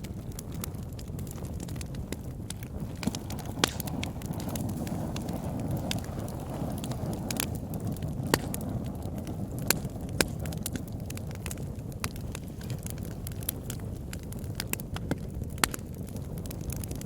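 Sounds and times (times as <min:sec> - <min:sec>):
fire crackling and popping: 0:00.0 - 0:17.0
wood fire burning: 0:00.0 - 0:17.0.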